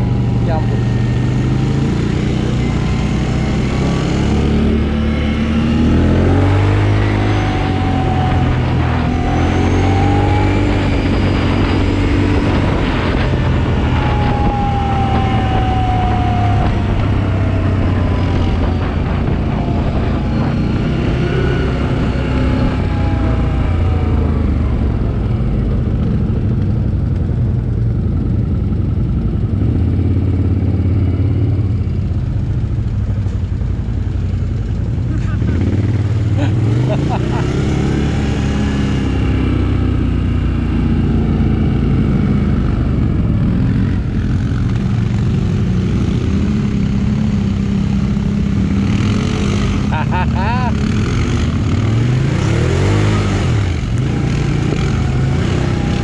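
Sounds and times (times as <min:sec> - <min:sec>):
quad bike engine revving: 0:00.0 - 0:27.1, 0:34.2 - 0:56.0.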